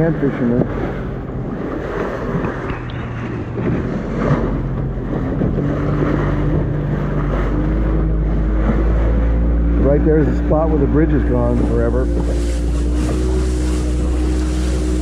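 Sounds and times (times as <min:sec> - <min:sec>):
boat motor humming: 0:00.0 - 0:15.0
water rushing past hull: 0:00.0 - 0:15.0
wind buffeting microphone: 0:00.0 - 0:15.0.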